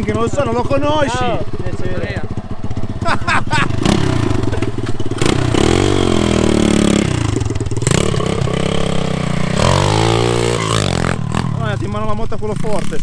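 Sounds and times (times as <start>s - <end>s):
small motorbike engine revving: 2.1s - 13.0s.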